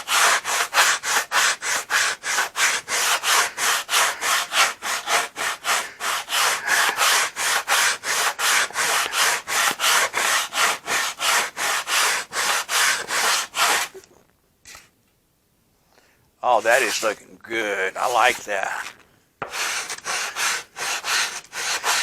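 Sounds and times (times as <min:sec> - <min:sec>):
sandpaper rubbing on wood: 0:00.0 - 0:14.0, 0:16.6 - 0:17.2, 0:17.9 - 0:22.0.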